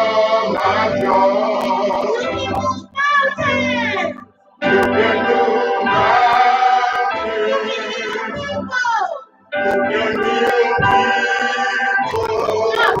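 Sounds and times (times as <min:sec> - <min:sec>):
singing with instrumental backing: 0:00.0 - 0:13.0.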